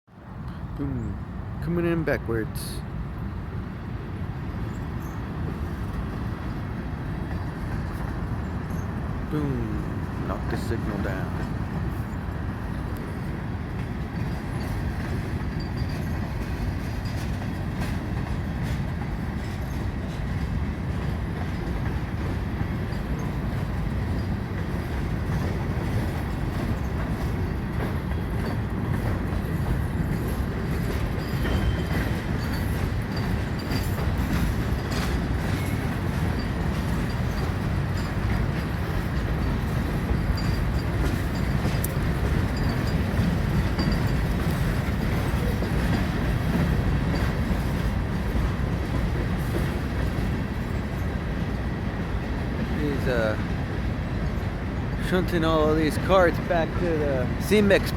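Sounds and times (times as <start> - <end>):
freight train rumbling: 0.1 - 57.9
wheels clicking over rail joints: 10.0 - 57.9.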